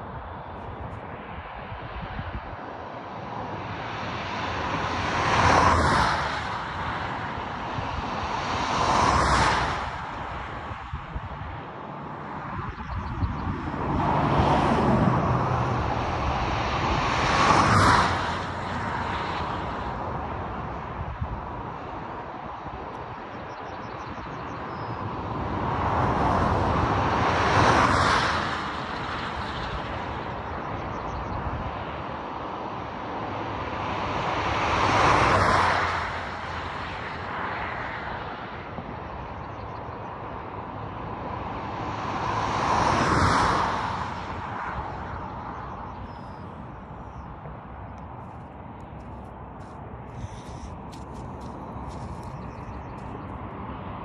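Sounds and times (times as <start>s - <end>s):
road and wind noise: 0.0s - 54.0s
vehicles passing on highway: 0.0s - 54.0s.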